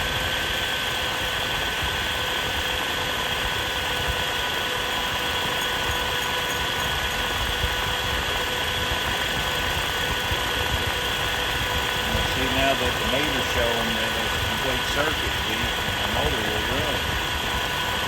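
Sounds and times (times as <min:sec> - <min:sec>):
electric blower motor whining: 0:00.0 - 0:18.0.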